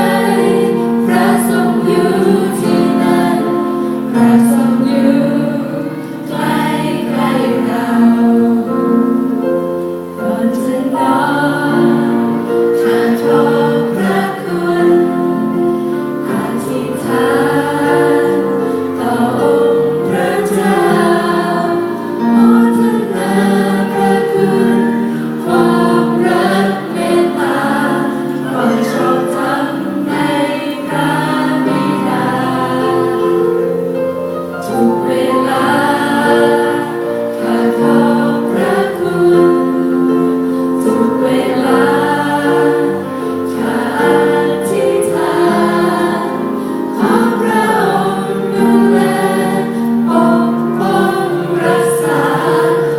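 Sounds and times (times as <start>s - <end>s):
youth choir singing in harmony: 0.0s - 52.9s.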